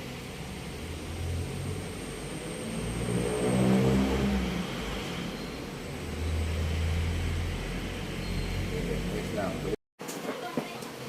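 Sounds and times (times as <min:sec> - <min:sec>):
vehicle engine passing by: 0:00.0 - 0:09.8.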